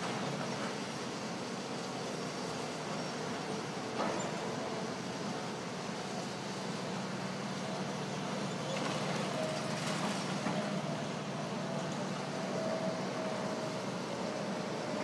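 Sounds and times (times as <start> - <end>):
excavator diesel engines running: 0.0 - 15.0.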